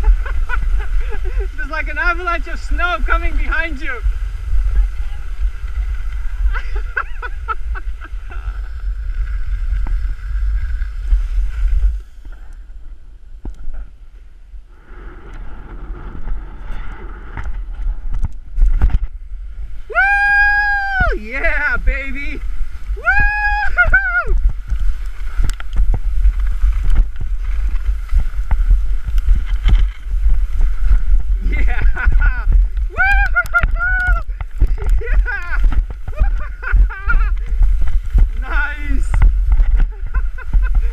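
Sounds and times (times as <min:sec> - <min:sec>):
snow hissing under sliding person: 0:00.0 - 0:13.0, 0:18.8 - 0:40.9
wind buffeting microphone: 0:00.0 - 0:40.9.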